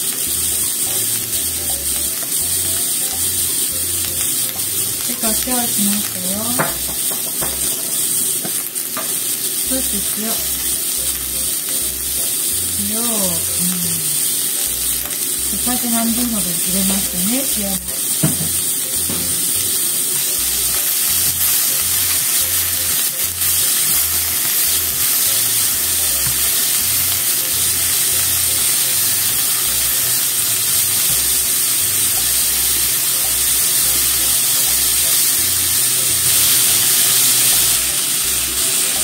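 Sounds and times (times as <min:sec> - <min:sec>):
vegetables sizzling in a frying pan: 0:00.0 - 0:39.0.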